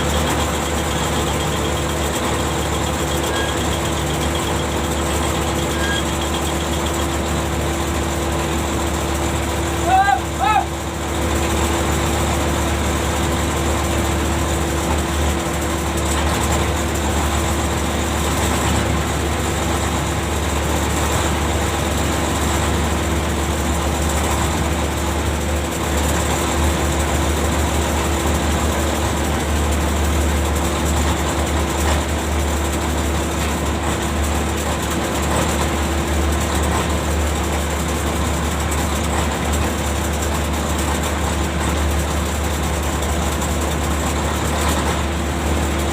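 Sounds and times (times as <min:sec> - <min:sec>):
constant machinery hum: 0:00.0 - 0:45.9.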